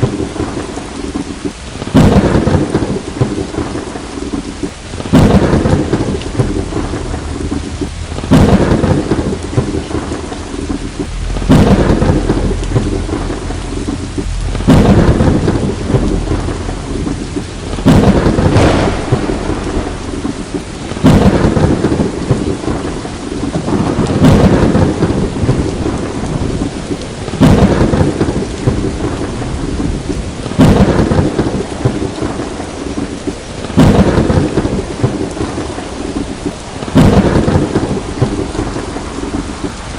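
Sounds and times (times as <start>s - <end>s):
heavy rain: 0.0s - 39.9s
thunder crack and rumble: 0.0s - 39.9s.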